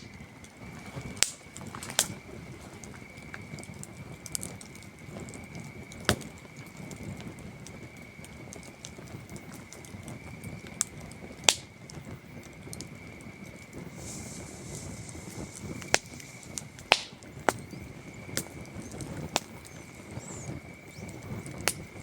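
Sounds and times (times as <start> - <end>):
campfire crackling and popping: 0.0 - 22.0
crickets chirring: 0.0 - 22.0.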